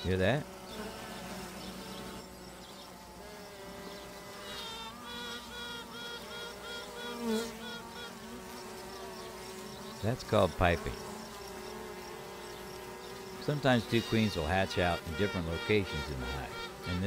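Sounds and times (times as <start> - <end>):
bees buzzing: 0.0 - 17.0
queen bee piping: 0.0 - 17.0.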